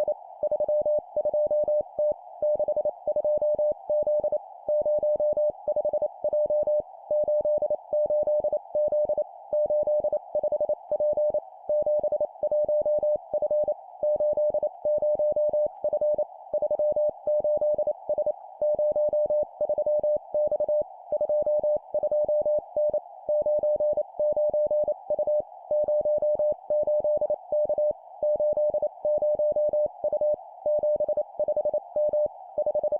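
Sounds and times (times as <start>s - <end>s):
morse code beeps: 0.5s - 32.9s.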